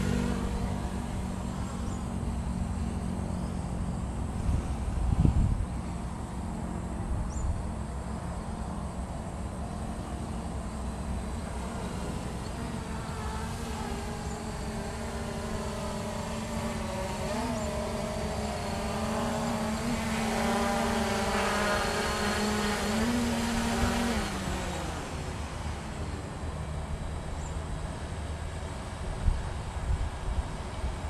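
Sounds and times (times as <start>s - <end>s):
drone propellers humming: 0.0s - 31.0s.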